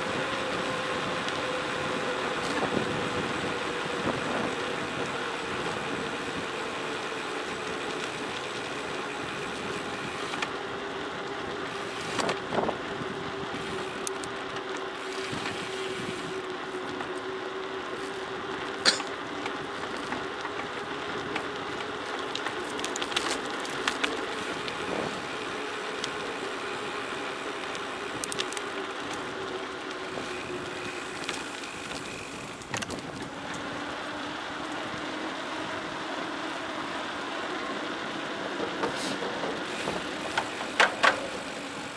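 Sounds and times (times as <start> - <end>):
bicycle tyre and wind noise: 0.0 - 41.9
gravel clicks and bike rattling: 0.0 - 41.9.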